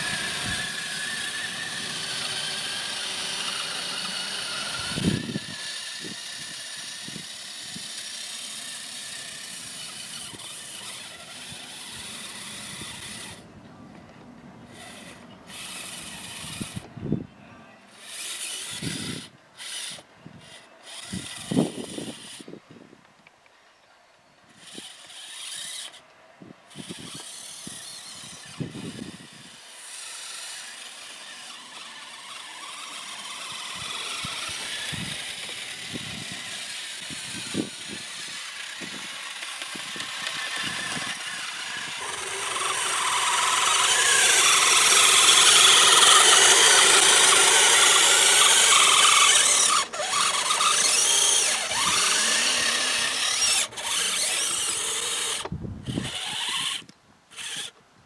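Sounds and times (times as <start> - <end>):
electric motor and gears whining: 0.0 - 22.6, 24.5 - 26.0, 26.7 - 57.8.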